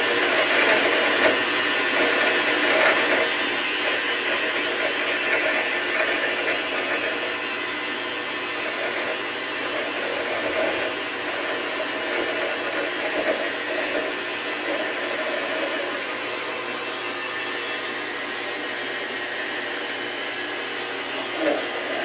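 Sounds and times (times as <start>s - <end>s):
metal lathe whirring: 0.0s - 22.0s.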